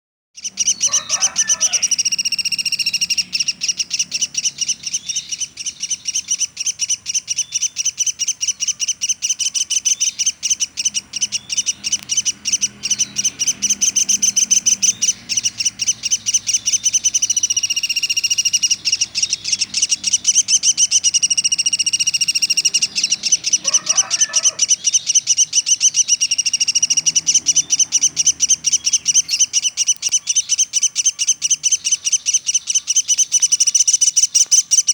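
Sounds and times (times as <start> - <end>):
bird calling in rapid trill: 0.4 - 34.9.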